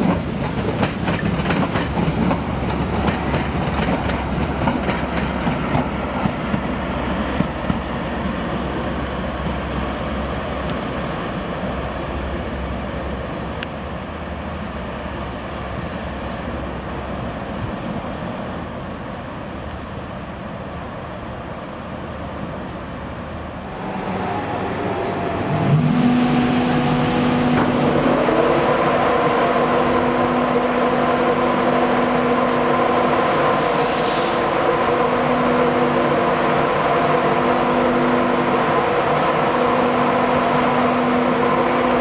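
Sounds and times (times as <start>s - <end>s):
diesel railcar engine rumbling: 0.0s - 42.0s
electric locomotive humming whine: 0.0s - 42.0s.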